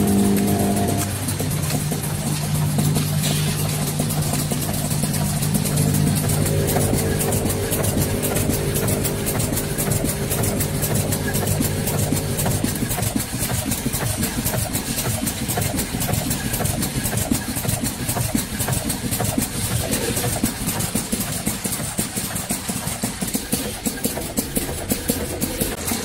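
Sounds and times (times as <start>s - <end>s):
packing machine humming and ticking: 0.0s - 26.0s.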